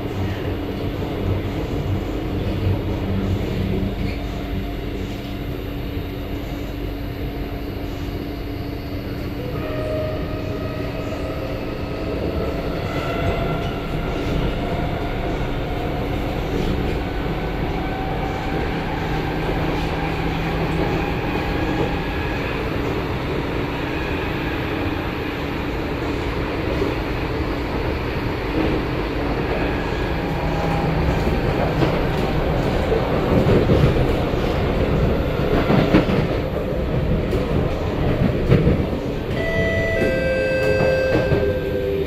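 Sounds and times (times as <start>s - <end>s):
train wheels rumbling on track: 0.0s - 42.0s.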